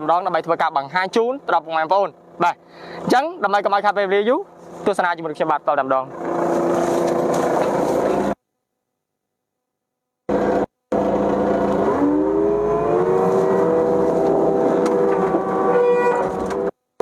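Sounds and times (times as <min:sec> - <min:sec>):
excavator diesel engine running: 0:00.0 - 0:08.4, 0:10.3 - 0:16.8.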